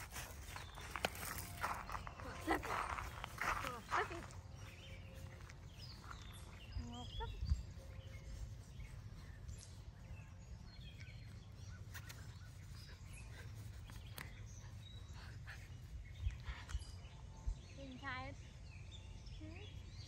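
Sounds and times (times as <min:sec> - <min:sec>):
bird chirps: 0:00.0 - 0:20.0.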